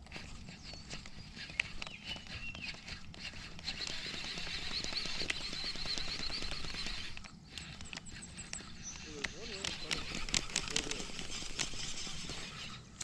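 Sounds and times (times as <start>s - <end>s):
fishing reel clicking: 0.9s - 13.0s.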